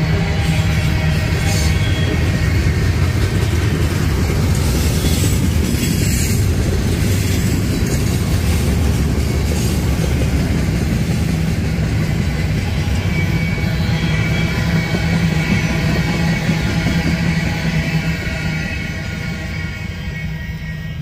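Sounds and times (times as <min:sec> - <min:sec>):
railroad cars rumbling past: 0:00.0 - 0:21.0.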